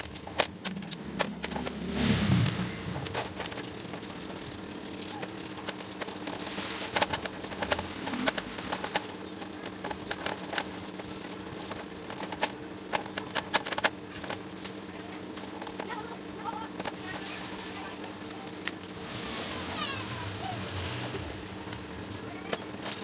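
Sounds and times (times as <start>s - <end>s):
small parts clicking and tapping: 0.0s - 1.8s, 2.4s - 19.0s, 21.1s - 23.0s
steady low hum: 0.0s - 23.0s.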